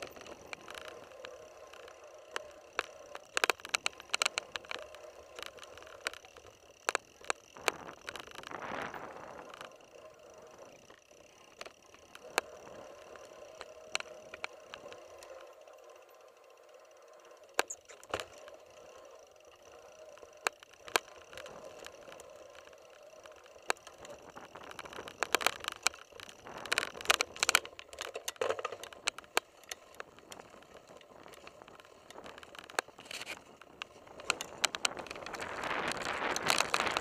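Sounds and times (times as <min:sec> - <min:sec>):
bike rattling and knocking: 0:00.0 - 0:37.0
bike tyres on dirt: 0:00.0 - 0:37.0.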